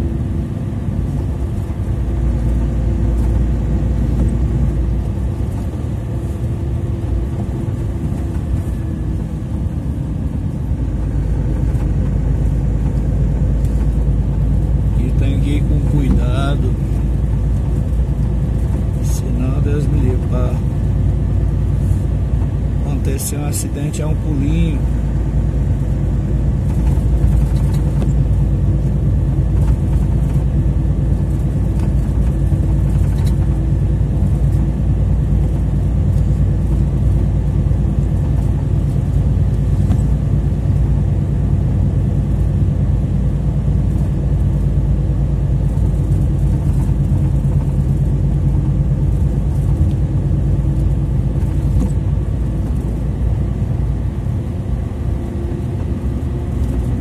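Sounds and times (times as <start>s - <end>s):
low road rumble: 0.0s - 57.0s
truck engine running: 0.0s - 57.0s.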